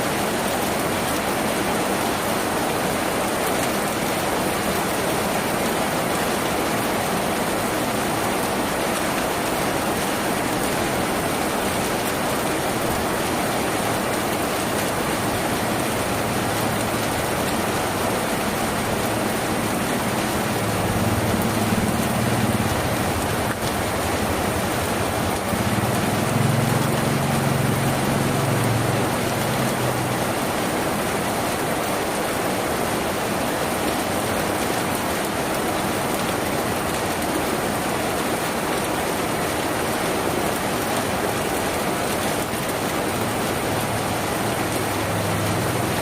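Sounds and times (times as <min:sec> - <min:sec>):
rain on a tin roof: 0:00.0 - 0:46.0.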